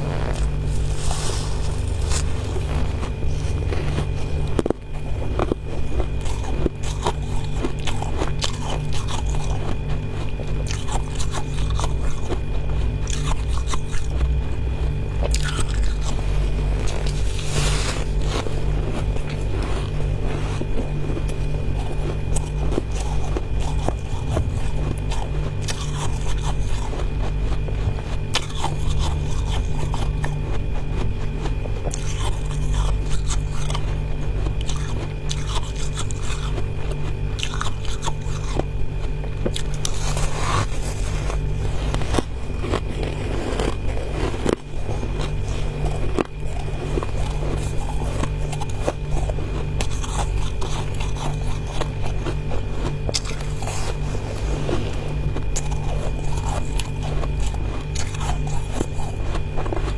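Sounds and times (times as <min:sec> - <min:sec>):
frost crunching when chewed: 0:00.0 - 0:59.9
steady low hum: 0:00.0 - 0:59.9.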